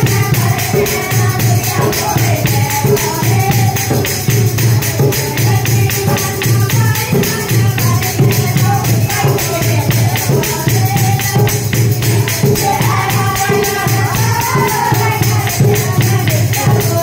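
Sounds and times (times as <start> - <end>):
hand drum beat: 0.0 - 17.0
jingling percussion: 0.0 - 17.0
women singing together: 0.0 - 17.0.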